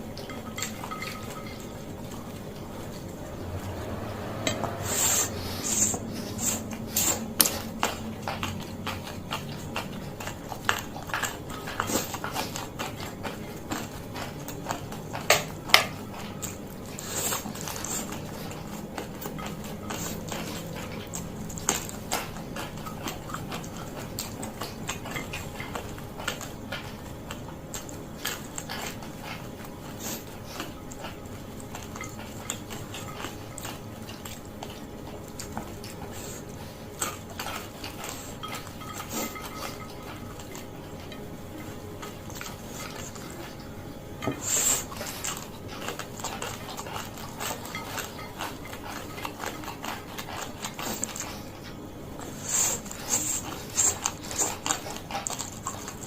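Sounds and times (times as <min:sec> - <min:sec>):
person chewing fried noodles: 0:00.0 - 0:56.0.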